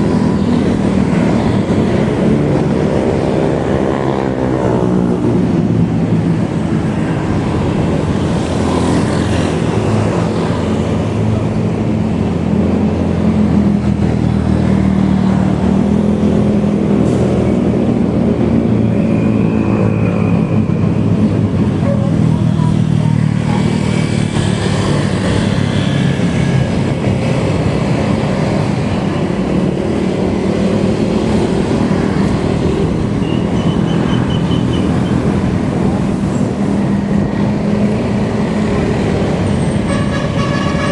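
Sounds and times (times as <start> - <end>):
road and wind noise: 0.0 - 40.9.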